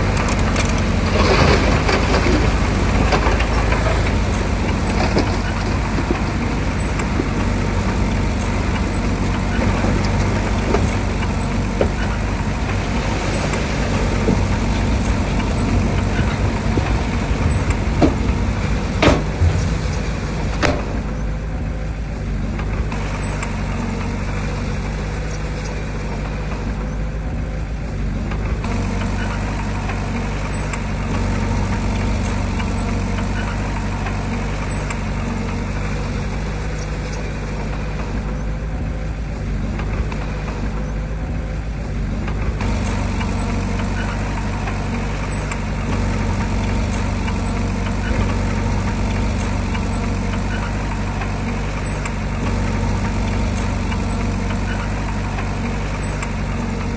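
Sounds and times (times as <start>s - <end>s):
heavy machinery engine running: 0.0s - 56.9s.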